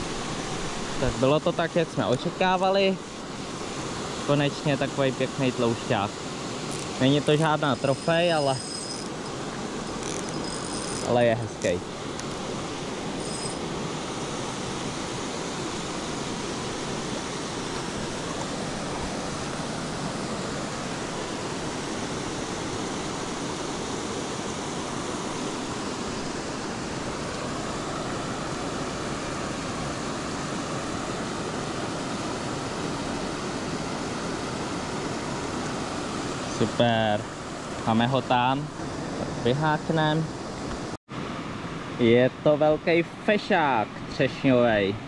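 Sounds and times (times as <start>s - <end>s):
river water rushing over weir: 0.0s - 44.8s.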